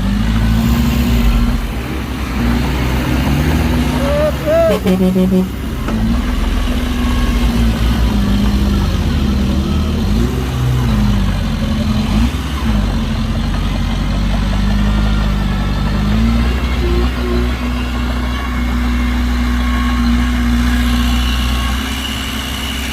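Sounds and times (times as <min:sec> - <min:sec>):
heavy diesel engine working: 0:00.0 - 0:22.9.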